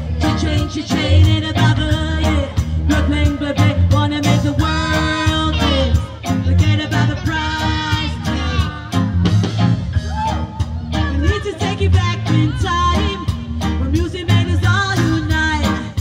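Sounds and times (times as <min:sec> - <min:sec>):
amplified singing: 0:00.0 - 0:09.4, 0:10.9 - 0:16.0
live band playing: 0:00.0 - 0:16.0.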